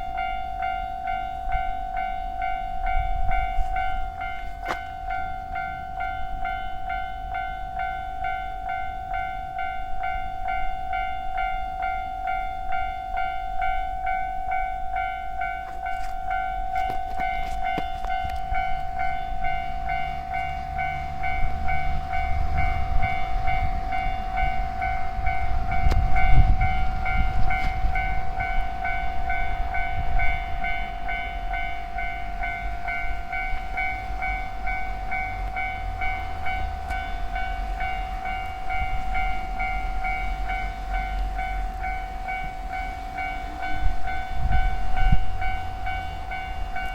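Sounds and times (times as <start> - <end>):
level-crossing warning bell: 0.0 - 46.9
train rumbling past: 0.0 - 46.9.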